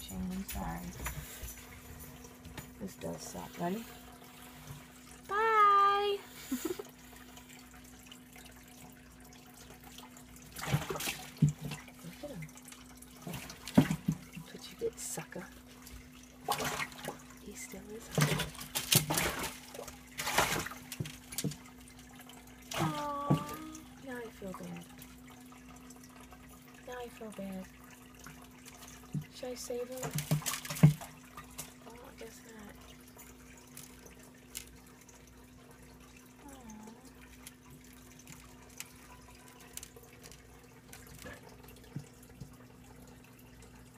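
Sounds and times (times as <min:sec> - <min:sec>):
water splashing in aquarium: 0:00.0 - 0:43.9.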